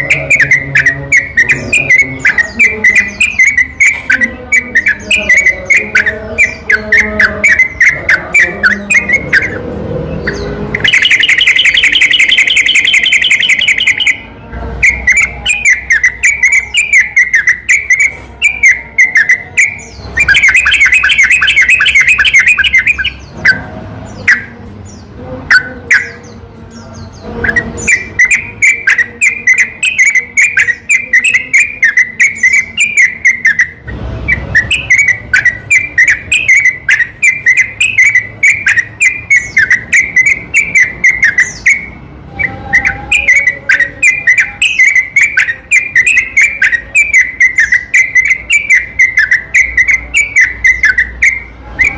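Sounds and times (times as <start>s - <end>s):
bulbul chattering song: 0.0s - 51.9s.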